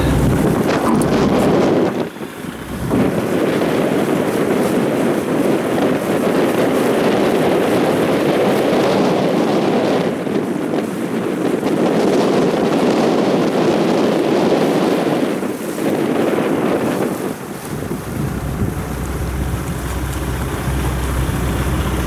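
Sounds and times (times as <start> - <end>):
boat motor: 0.0 - 22.0
water rushing along hull: 0.0 - 22.0
wind buffeting microphone: 0.0 - 22.0.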